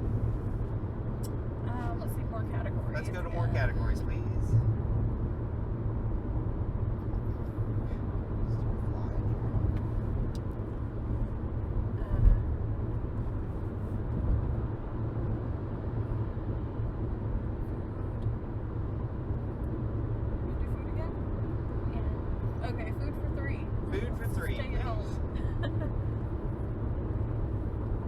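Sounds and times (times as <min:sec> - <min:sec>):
car cabin road rumble: 0:00.0 - 0:28.0.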